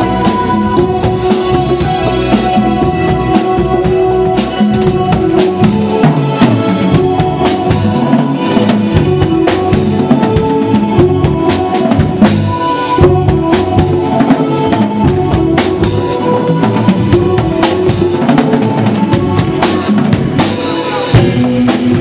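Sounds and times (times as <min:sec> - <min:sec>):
drum kit groove: 0:00.0 - 0:22.0
jazz-funk band playing: 0:00.0 - 0:22.0.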